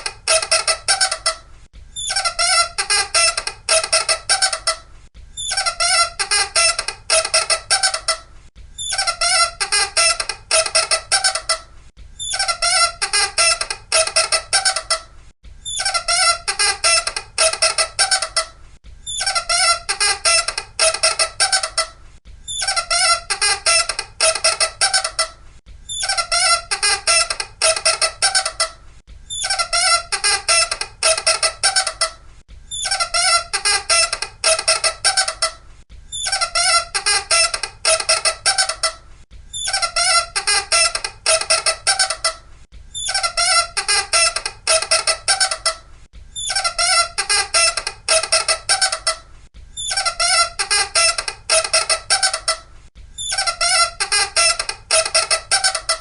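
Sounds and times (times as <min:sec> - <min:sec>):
loud rapid squeaking: 0:00.0 - 0:01.4, 0:02.0 - 0:04.8, 0:05.4 - 0:08.2, 0:08.8 - 0:11.6, 0:12.2 - 0:18.5, 0:19.1 - 0:21.9, 0:22.5 - 0:32.1, 0:32.7 - 0:42.4, 0:43.0 - 0:45.8, 0:46.4 - 0:49.2, 0:49.8 - 0:56.0.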